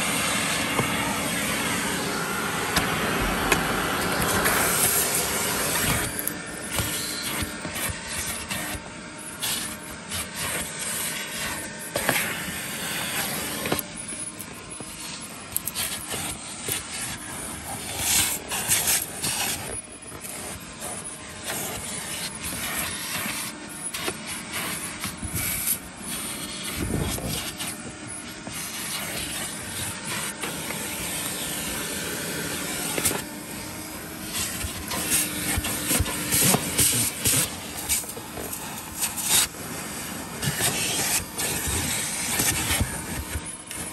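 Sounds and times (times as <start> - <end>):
nozzle scraping on carpet: 0.0 - 43.9
vacuum cleaner running: 0.0 - 43.9.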